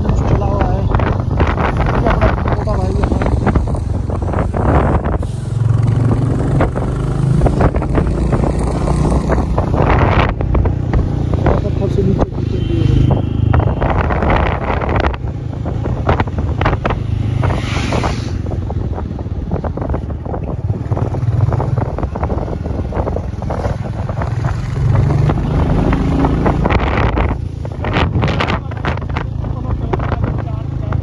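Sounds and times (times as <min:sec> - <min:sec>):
motorcycle engine drone: 0:00.0 - 0:31.0
wind buffeting microphone: 0:00.0 - 0:31.0.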